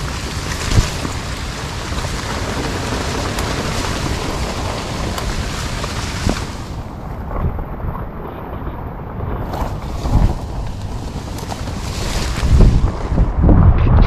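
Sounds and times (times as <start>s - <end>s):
steady rain: 0.0s - 13.5s.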